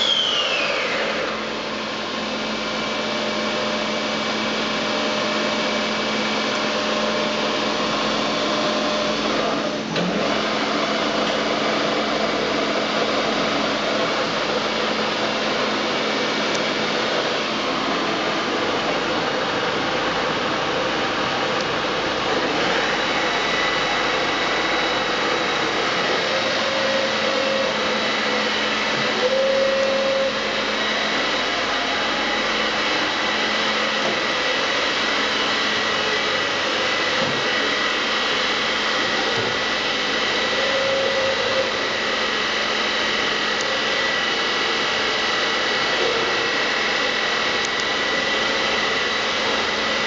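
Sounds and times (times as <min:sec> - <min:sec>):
milling machine motor hum and whine: 0:00.0 - 0:50.0
short machine whines: 0:00.0 - 0:50.0.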